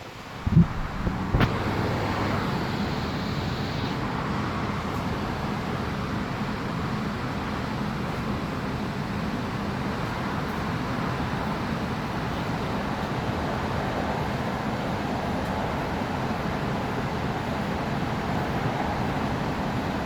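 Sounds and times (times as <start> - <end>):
ventilation hum and rumble: 0.0 - 16.6.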